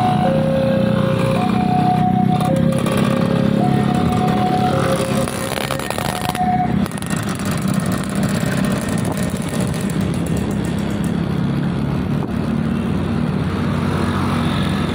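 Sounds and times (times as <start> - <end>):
motorcycle engines droning: 0.0 - 14.9.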